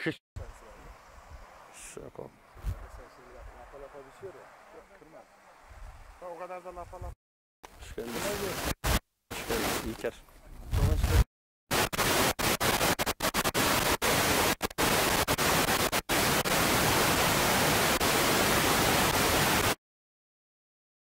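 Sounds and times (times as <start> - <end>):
static-like hiss: 0.4 - 7.0, 7.7 - 10.1, 10.7 - 19.8.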